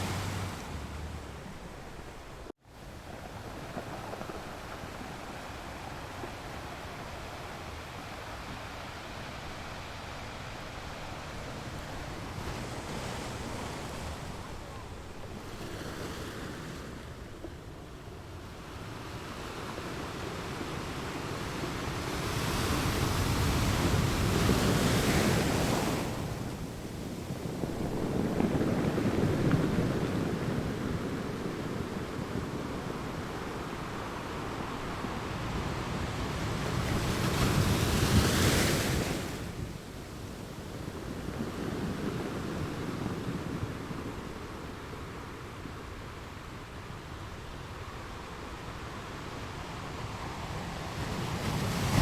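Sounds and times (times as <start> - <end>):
waves breaking and washing ashore: 0.0 - 52.0.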